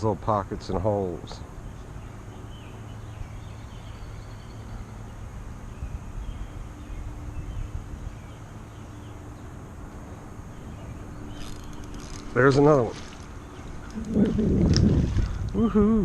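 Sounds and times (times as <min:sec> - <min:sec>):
outdoor background noise: 0:00.0 - 0:16.0
low hum: 0:00.7 - 0:16.0
faint bird chirps: 0:01.6 - 0:09.6, 0:10.4 - 0:16.0.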